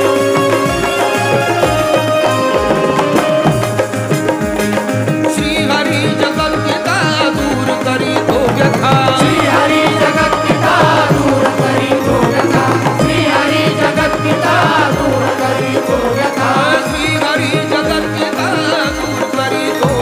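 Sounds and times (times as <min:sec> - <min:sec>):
hand drums beating: 0:00.0 - 0:20.0
winding instrumental melody: 0:00.0 - 0:20.0.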